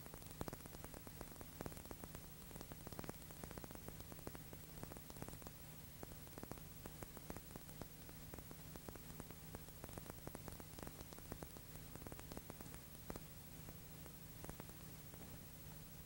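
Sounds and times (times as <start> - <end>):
crackling clicks: 0.0 - 16.0
faint steady hiss: 0.0 - 16.0
low mains hum: 0.0 - 16.0.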